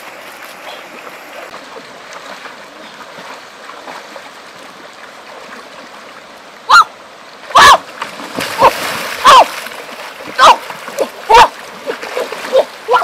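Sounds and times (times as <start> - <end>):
stream water trickling: 0.0 - 13.0.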